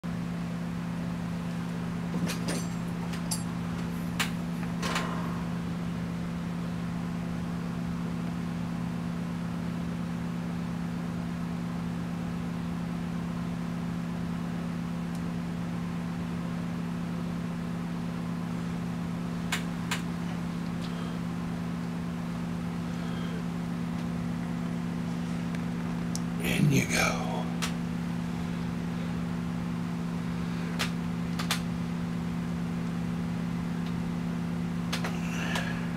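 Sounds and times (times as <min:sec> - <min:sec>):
low mechanical hum: 0:00.0 - 0:35.9.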